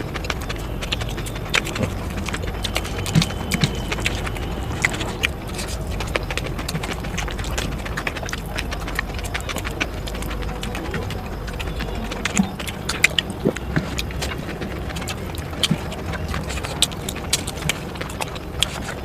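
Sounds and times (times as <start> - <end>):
chewing and crunching: 0.0 - 19.0
low background hum: 0.0 - 19.0.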